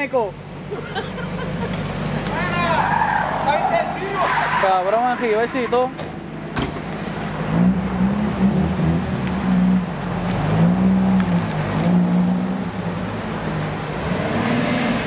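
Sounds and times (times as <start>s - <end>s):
car engine revving: 0.6s - 15.0s.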